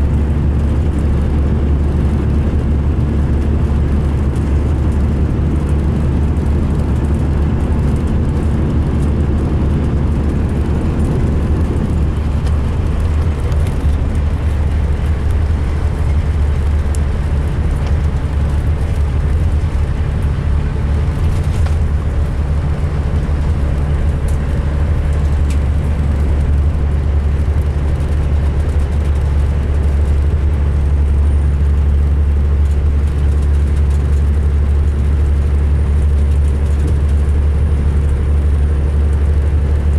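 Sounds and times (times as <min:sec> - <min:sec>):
diesel engine rumble: 0:00.0 - 0:39.9
road noise: 0:00.0 - 0:39.9.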